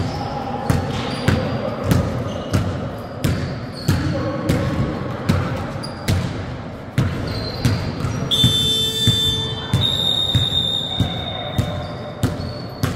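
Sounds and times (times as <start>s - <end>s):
basketball dribbling: 0.0s - 12.9s.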